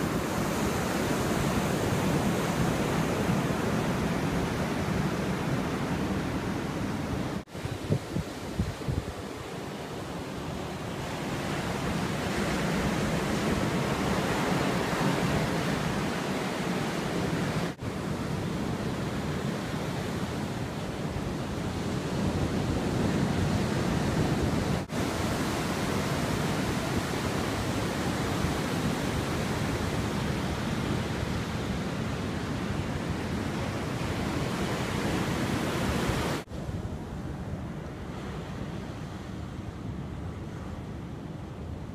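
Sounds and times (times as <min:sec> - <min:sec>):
ocean surf washing on beach: 0:00.0 - 0:41.9
wind on microphone: 0:00.0 - 0:41.9.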